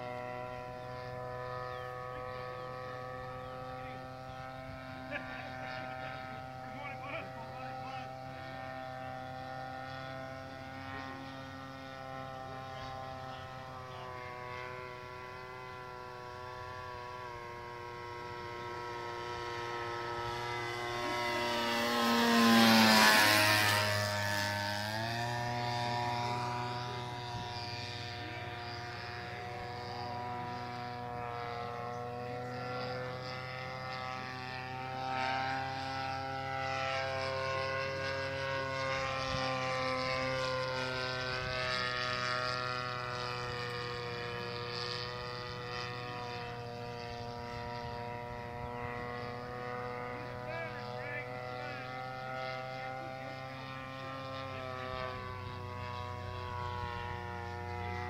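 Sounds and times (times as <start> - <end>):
model airplane motor and propeller: 0.0 - 58.0.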